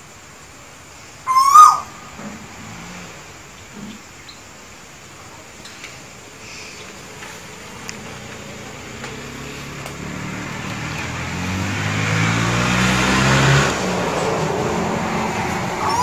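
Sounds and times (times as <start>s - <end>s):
rushing road noise: 0.1s - 16.0s
vehicle engine hum: 1.9s - 16.0s.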